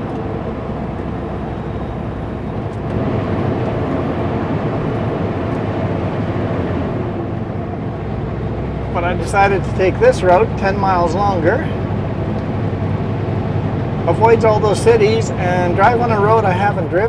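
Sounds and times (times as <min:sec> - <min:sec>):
road noise in cab: 0:00.0 - 0:17.0
truck diesel engine running: 0:00.0 - 0:17.0.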